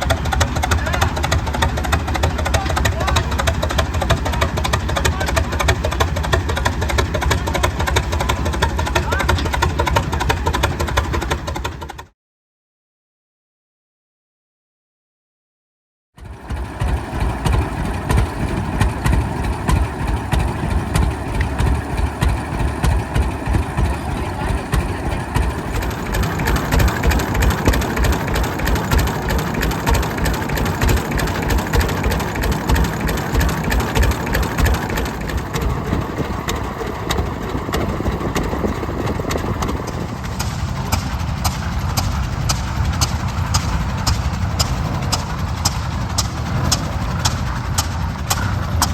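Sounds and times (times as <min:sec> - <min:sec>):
tractor engine running: 0:00.0 - 0:12.1, 0:16.2 - 0:48.9.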